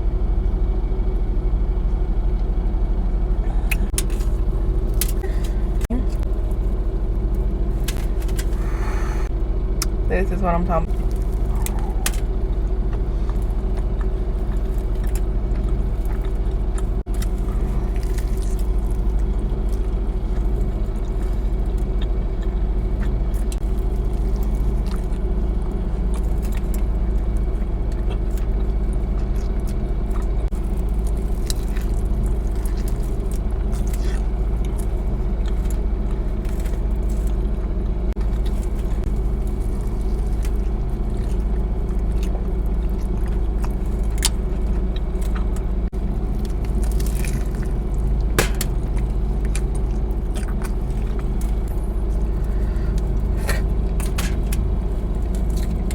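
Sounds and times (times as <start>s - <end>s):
car engine idling: 0.0s - 29.2s, 34.7s - 55.9s
person chewing food: 3.5s - 10.0s, 10.9s - 55.9s.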